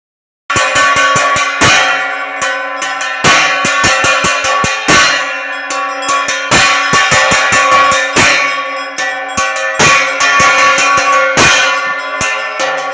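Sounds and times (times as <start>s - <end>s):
percussion strikes: 0.5s - 12.9s
temple bells ringing: 0.5s - 12.9s.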